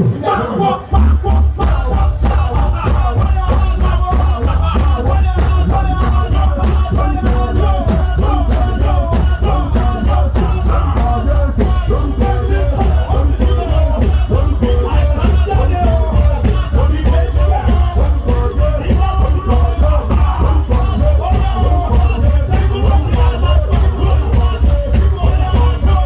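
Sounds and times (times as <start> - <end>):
live band music: 0.0 - 26.0.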